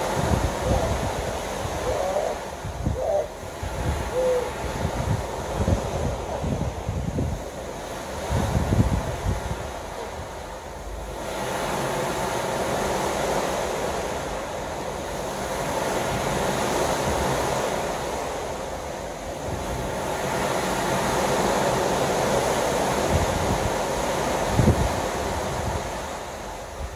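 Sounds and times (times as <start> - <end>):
sea water washing: 0.0 - 26.9
wind buffeting microphone: 0.0 - 26.9.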